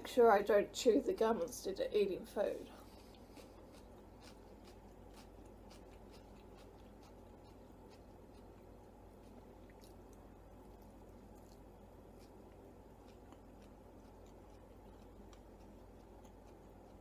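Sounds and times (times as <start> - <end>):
low room hum: 0.0 - 17.0
chewing with mouth clicks: 2.8 - 17.0.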